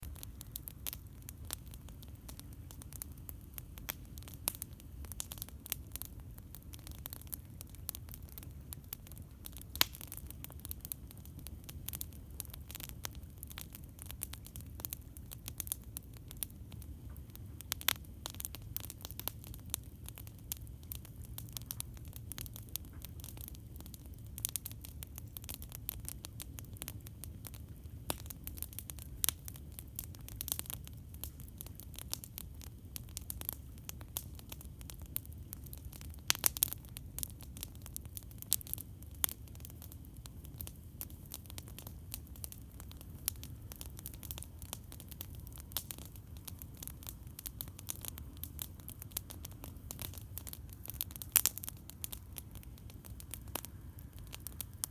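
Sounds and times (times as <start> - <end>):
campfire crackling: 0.0 - 54.9.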